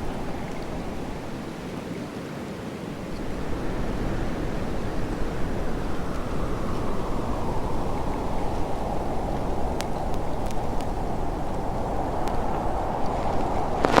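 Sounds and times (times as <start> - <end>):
blizzard wind blowing: 0.0 - 14.0.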